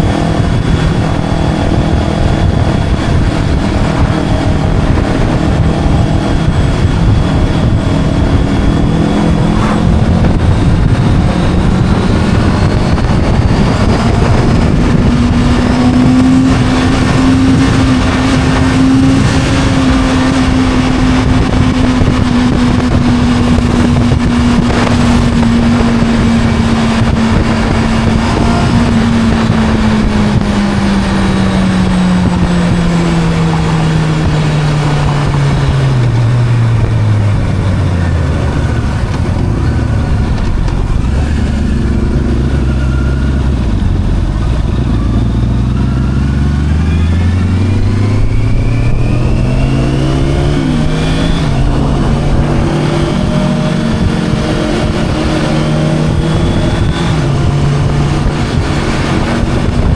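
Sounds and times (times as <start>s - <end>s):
motorcycle engine running: 0.0s - 59.9s
wind rush: 0.0s - 59.9s.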